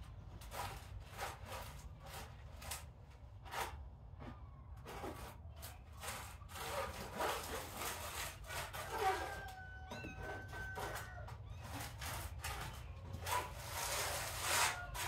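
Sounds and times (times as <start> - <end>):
kittens scuffling and scratching: 0.0 - 15.0.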